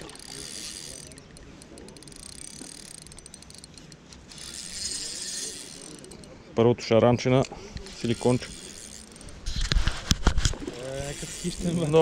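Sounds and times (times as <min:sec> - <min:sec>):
spinning reel whirring: 0:00.0 - 0:06.3, 0:07.8 - 0:09.8, 0:10.6 - 0:12.0.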